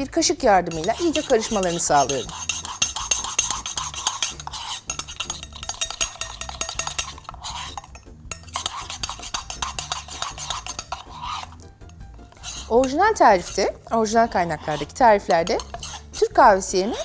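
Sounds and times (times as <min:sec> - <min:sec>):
metal spoon clinking and scraping pot: 0:00.0 - 0:17.0.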